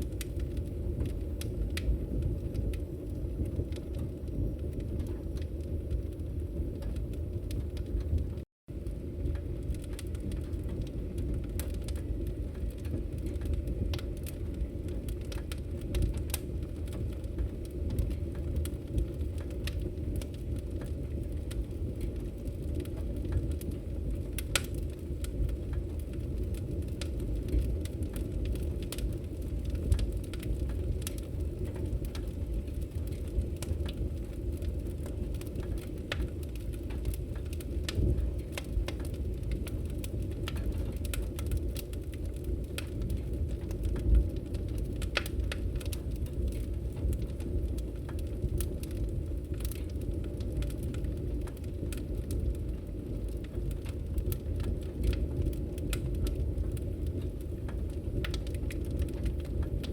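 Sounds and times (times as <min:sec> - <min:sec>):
fire crackling and popping: 0:00.0 - 0:59.9
fire rumbling in a fireplace: 0:00.0 - 0:59.9.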